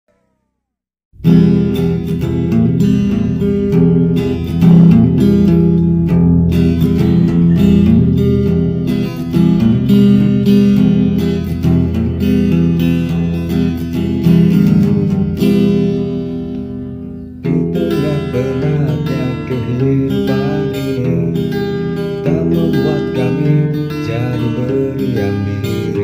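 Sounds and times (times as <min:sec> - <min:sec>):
strummed acoustic guitar: 0:01.2 - 0:26.0.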